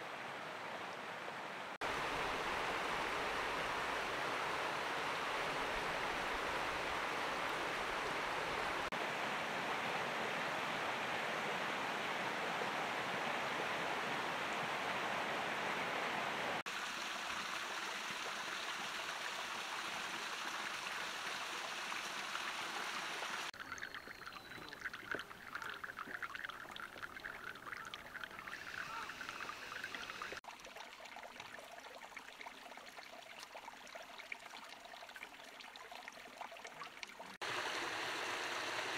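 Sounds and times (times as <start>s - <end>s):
water rushing: 0.0s - 38.9s
water trickling and splashing: 1.7s - 11.3s, 16.5s - 38.9s.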